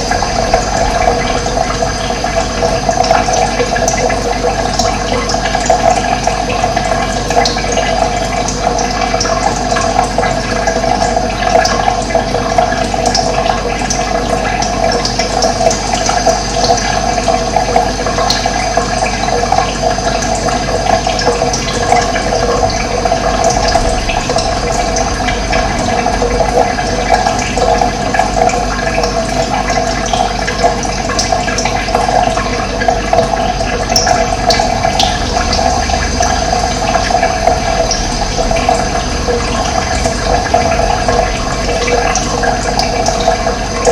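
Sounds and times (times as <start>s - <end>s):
running water flowing: 0.0s - 43.9s.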